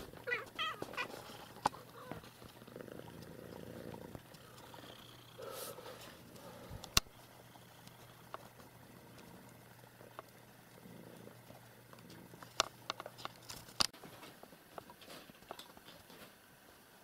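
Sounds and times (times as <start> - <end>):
cat licking and grooming: 0.0 - 16.9
faint low hum: 0.0 - 17.0.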